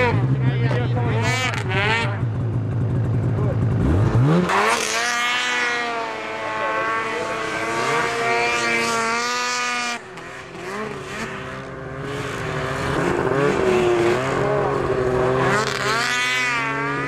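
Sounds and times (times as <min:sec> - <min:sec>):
snowmobile engines revving: 0:00.0 - 0:17.0.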